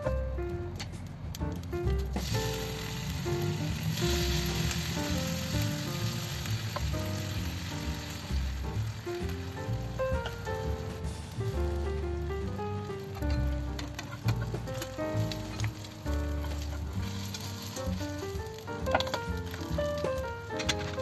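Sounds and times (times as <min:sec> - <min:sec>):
light background music: 0:00.0 - 0:21.0
bacon sizzling in a pan: 0:02.1 - 0:21.0.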